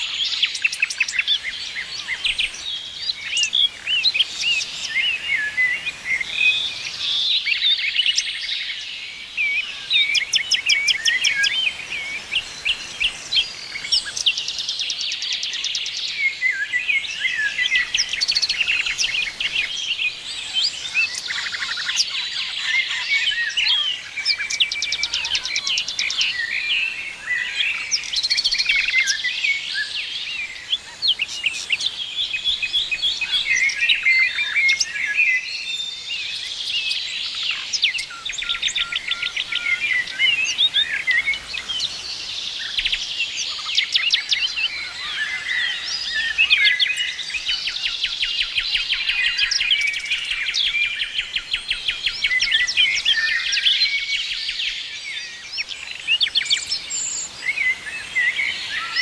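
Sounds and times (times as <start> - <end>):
songbirds chorus: 0.0 - 59.0.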